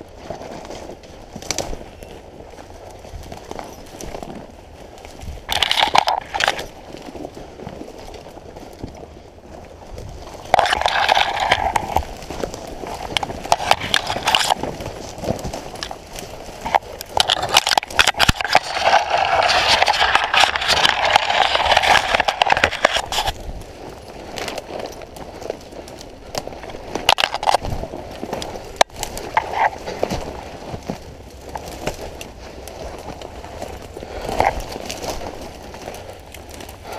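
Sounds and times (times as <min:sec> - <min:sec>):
brush and twigs crackling: 0:00.0 - 0:36.9
footsteps crunching in leaves: 0:00.0 - 0:36.9.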